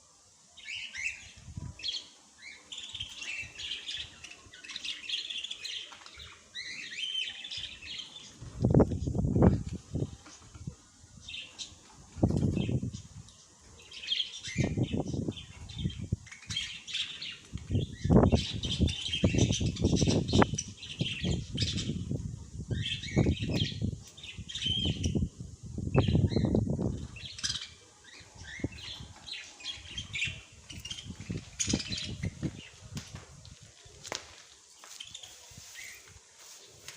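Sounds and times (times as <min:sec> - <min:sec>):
small birds chirping: 0:00.5 - 0:36.9.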